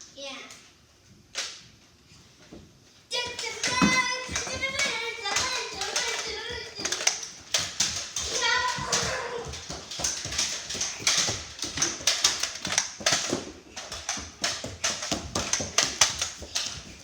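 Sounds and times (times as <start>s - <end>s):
sharp clicks and knocks: 3.2s - 17.0s.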